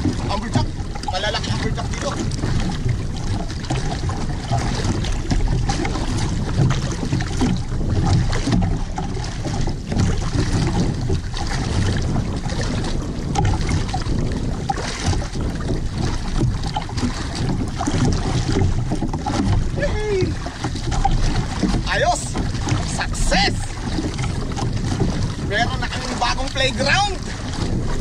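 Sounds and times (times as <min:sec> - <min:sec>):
water splashing against boat hull: 0:00.0 - 0:28.0
wind buffeting microphone: 0:00.0 - 0:28.0.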